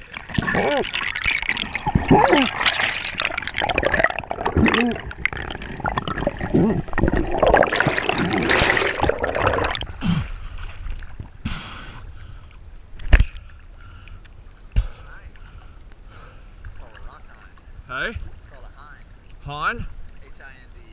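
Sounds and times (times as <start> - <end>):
water lapping: 0.0 - 11.2, 13.4 - 20.9
underwater churning and bubbling: 0.0 - 20.3.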